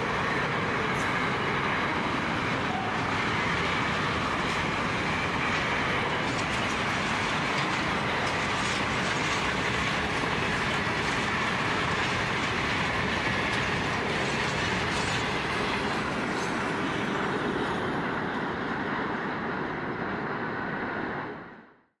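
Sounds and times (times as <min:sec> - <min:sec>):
freight train wheels rumbling: 0:00.0 - 0:21.6.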